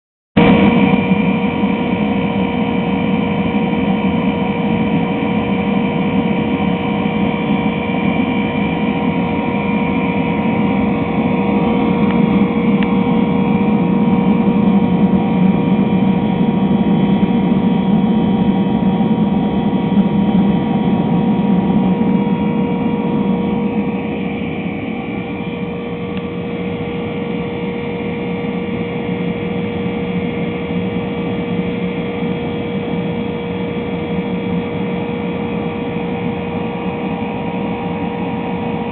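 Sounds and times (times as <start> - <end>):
blower motor humming: 0.4 - 38.9
furnace burner roaring: 0.4 - 38.9.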